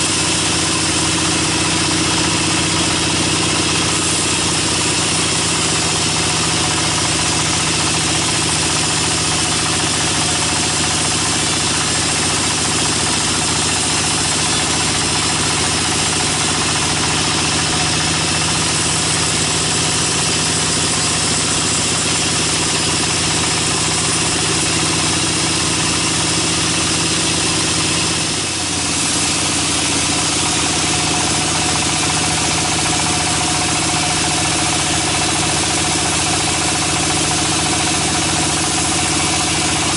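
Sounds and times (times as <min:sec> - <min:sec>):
band saw cutting log: 0:06.9 - 0:39.9.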